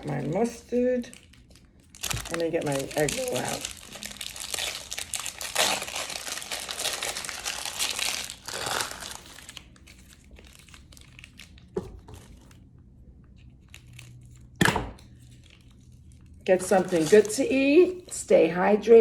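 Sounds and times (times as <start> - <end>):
food wrapping crinkling: 0.0 - 12.7, 13.4 - 14.5, 15.1 - 18.2.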